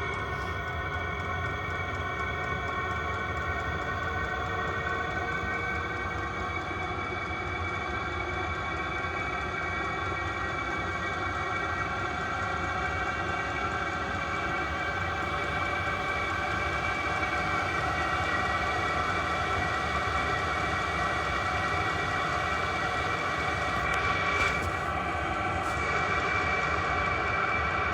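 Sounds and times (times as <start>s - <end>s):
diesel heater combustion rumble: 0.0s - 27.9s
multi-tone whine: 5.0s - 27.9s.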